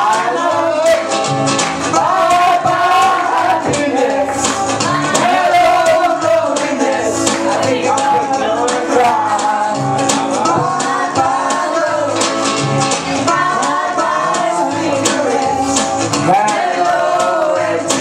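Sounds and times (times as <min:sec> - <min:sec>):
backing track with bass and percussion: 0:00.0 - 0:18.0
person singing karaoke: 0:00.0 - 0:18.0.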